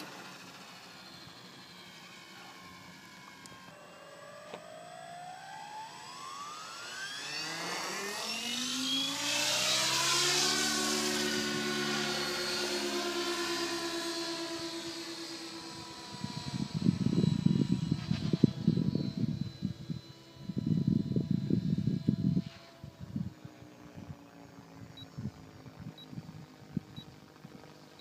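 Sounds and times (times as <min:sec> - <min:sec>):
electric motor whine: 0:00.0 - 0:28.0
rotor blades pulsing: 0:00.0 - 0:28.0.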